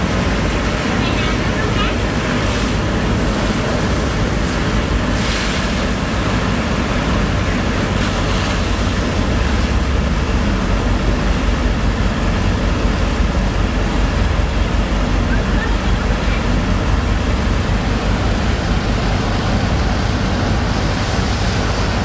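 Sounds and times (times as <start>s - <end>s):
pump engine running: 0.0s - 22.0s
water and sand rushing: 0.0s - 22.0s.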